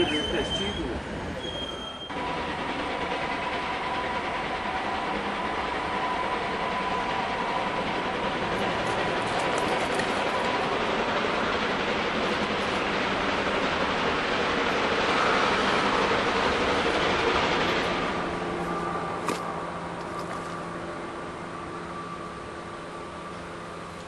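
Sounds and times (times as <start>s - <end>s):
steam locomotive working hard: 0.0s - 24.0s.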